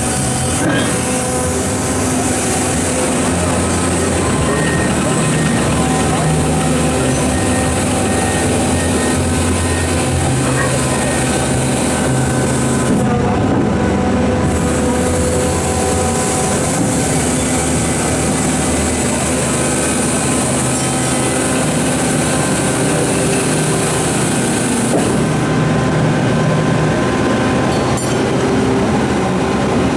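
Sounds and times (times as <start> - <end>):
excavator engine and hydraulics: 0.0 - 29.9.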